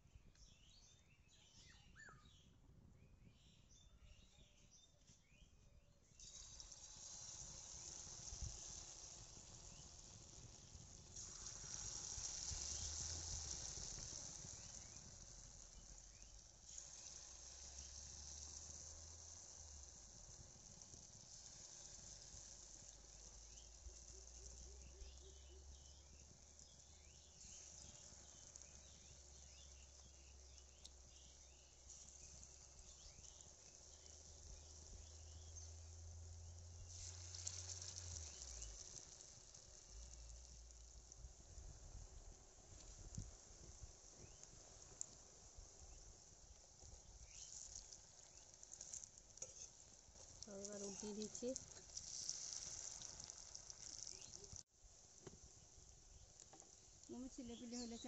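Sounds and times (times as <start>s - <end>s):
hot oil sizzling and crackling: 6.1s - 58.0s.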